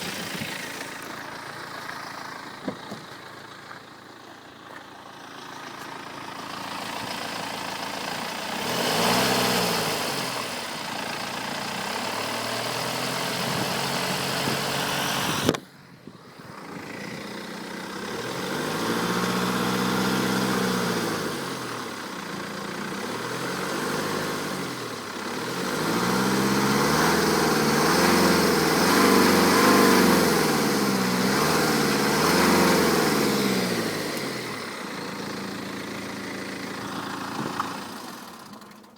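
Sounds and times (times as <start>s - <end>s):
diesel engine revving: 0.0s - 4.1s, 5.1s - 15.6s, 16.2s - 38.9s.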